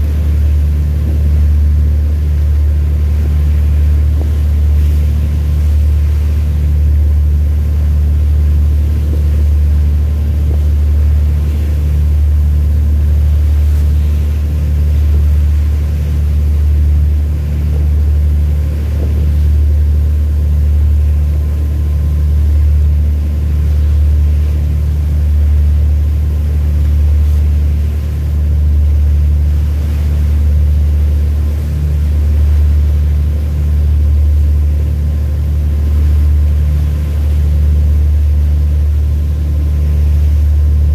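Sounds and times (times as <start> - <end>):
large engine droning: 0.0 - 40.9.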